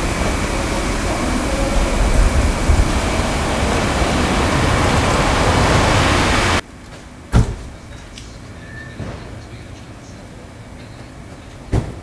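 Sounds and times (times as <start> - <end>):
quiet street ambience: 0.0 - 12.0
street traffic noise: 0.0 - 12.0.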